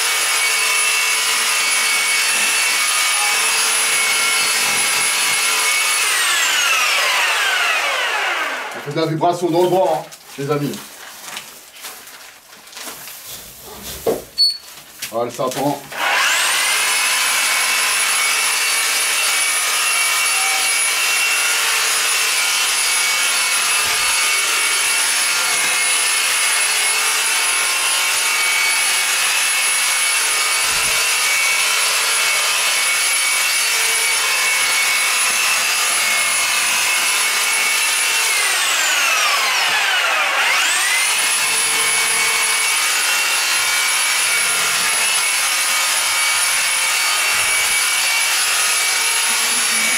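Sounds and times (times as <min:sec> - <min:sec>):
reciprocating saw cutting wood: 0:00.0 - 0:08.9, 0:15.9 - 0:49.9.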